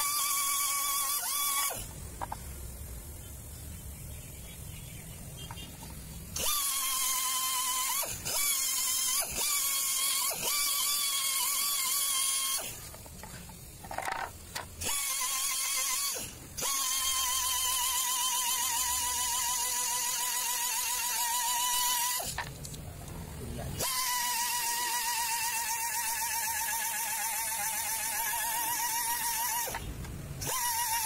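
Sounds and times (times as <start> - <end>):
air die grinder whining: 0.0 - 2.4, 5.5 - 22.6, 23.7 - 31.0.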